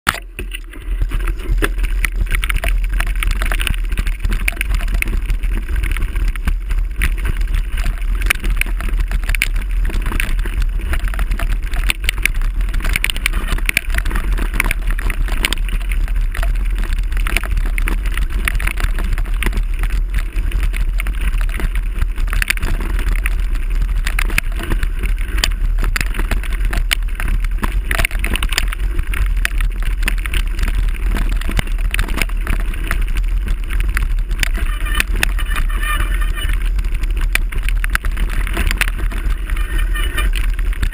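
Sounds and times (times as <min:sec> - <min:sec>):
bike tyres rattling: 0:00.1 - 0:40.9.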